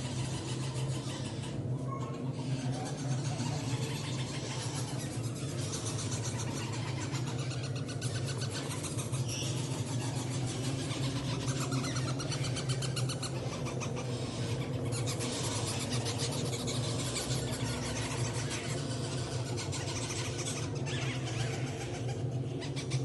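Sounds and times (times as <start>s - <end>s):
parrot chicks begging calls: 0.0s - 23.0s
steady low hum: 0.0s - 23.0s.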